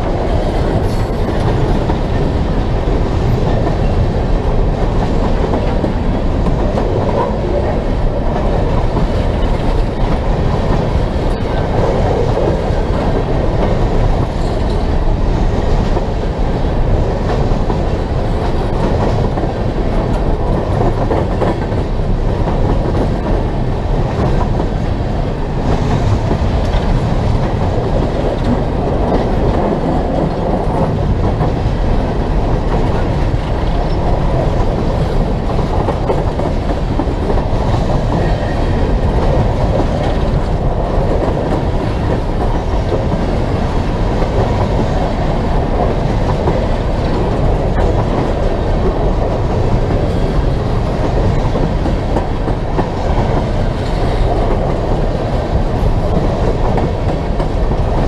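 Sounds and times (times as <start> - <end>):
train wheels running on rails: 0.0 - 58.0.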